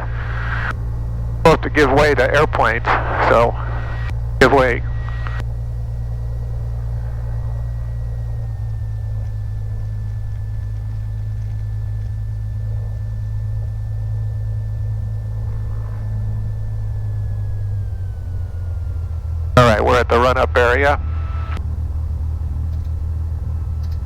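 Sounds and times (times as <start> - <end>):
faint high whine: 0.0 - 24.0
propeller engine droning: 0.0 - 24.0.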